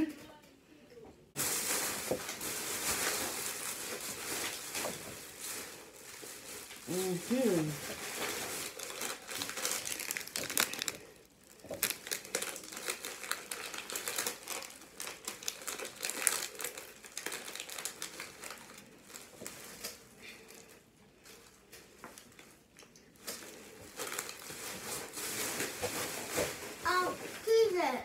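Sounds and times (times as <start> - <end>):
snack packaging crinkling: 1.4 - 27.0.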